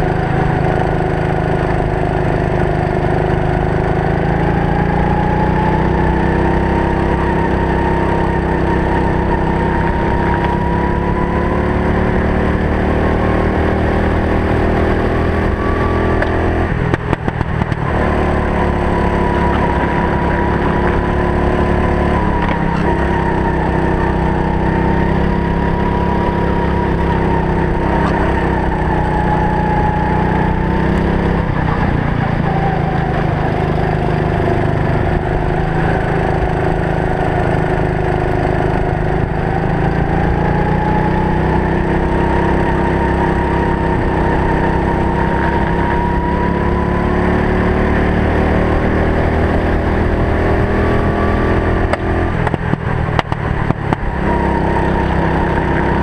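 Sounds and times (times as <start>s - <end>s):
kart engine revving: 0.0s - 56.0s
wind and road noise: 0.0s - 56.0s.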